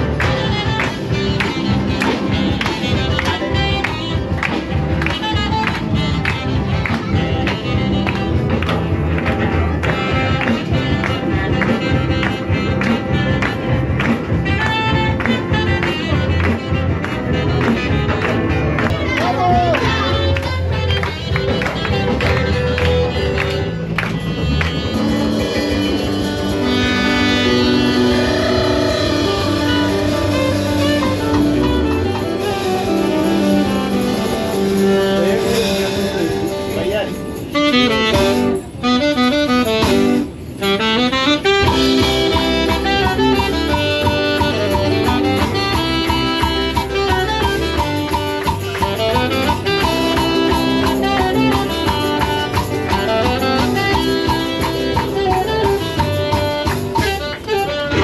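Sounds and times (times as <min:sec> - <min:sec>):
guitar: 0:00.0 - 0:58.0
live band playing upbeat tune: 0:00.0 - 0:58.0
wind instrument melody: 0:00.0 - 0:58.0.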